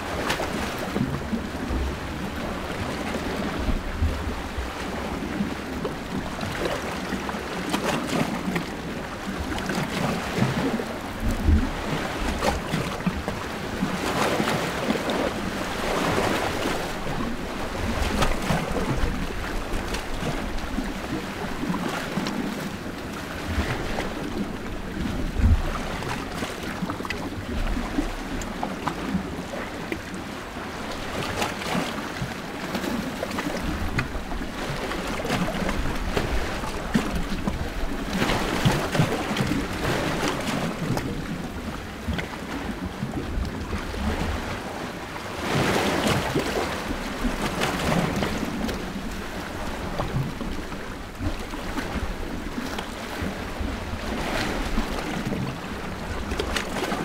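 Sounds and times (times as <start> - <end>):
small sea waves washing ashore: 0.0 - 57.0.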